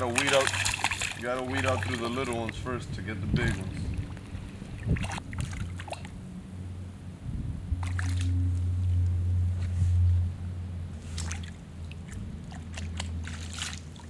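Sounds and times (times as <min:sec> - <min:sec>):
water splashing and sloshing: 0:00.0 - 0:06.4, 0:07.7 - 0:10.1, 0:10.9 - 0:14.0
low rumble: 0:00.0 - 0:13.4.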